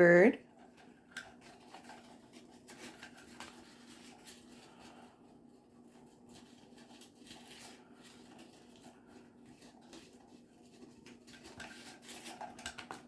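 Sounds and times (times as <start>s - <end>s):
parrot chewing cardboard roll: 0.4s - 13.0s.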